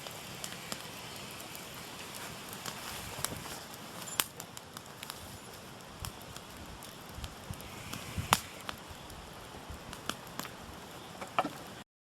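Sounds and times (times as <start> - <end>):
crackles and pops of wood: 0.0 - 11.8
hiss of flames: 0.0 - 11.8.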